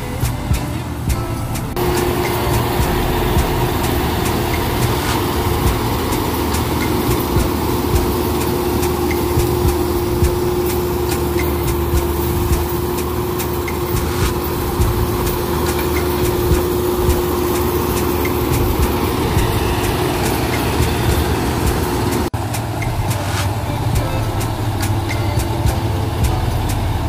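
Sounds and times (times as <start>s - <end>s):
combine harvester engine drone: 0.0s - 27.0s
machinery whine: 0.0s - 27.0s.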